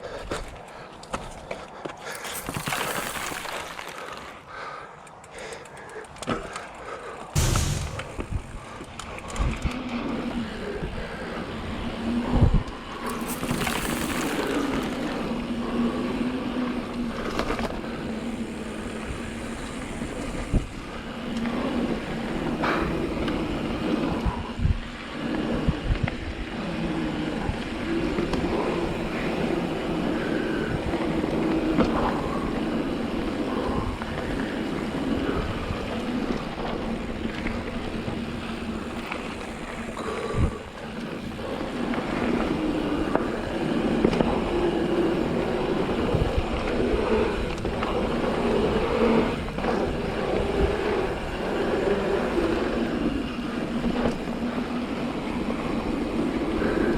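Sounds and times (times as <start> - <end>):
bike tyres rolling on dirt: 0.0 - 56.9
bike rattling over bumps: 0.4 - 24.4, 25.0 - 56.9
wind on microphone: 7.4 - 17.2, 17.8 - 56.9.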